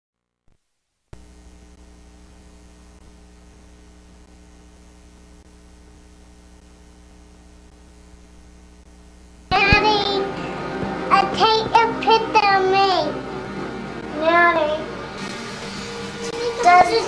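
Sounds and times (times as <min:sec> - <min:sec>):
mains hum: 0:00.2 - 0:17.0.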